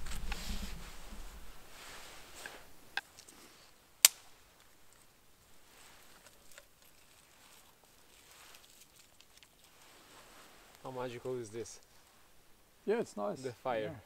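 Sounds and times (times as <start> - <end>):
campfire crackling and popping: 0.0 - 12.9.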